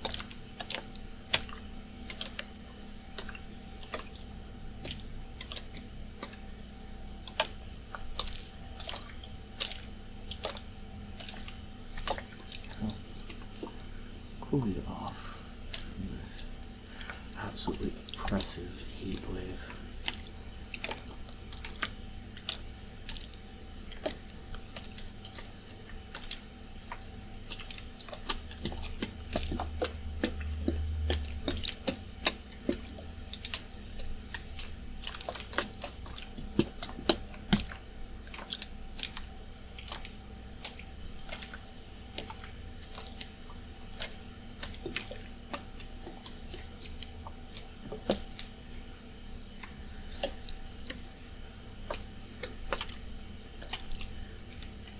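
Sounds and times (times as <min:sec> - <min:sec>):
air conditioner hum: 0:00.0 - 0:54.9
water sloshing in shaken bottle: 0:07.2 - 0:54.9.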